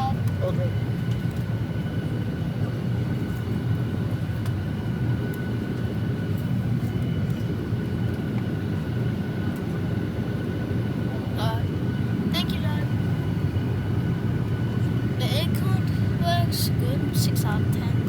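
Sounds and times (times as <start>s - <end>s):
airplane cabin rumble: 0.0s - 18.0s
faint steady whine: 0.0s - 18.0s.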